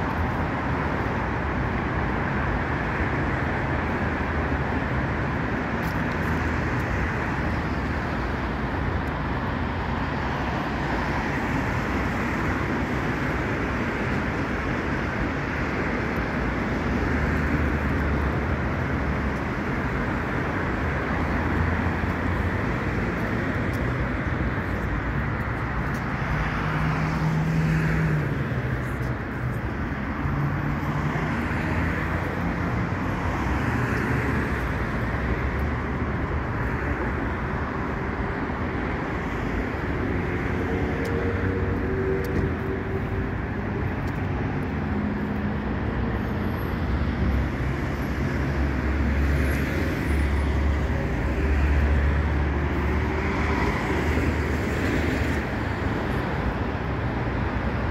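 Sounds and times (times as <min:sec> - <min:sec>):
cars driving past: 0:00.0 - 0:57.9.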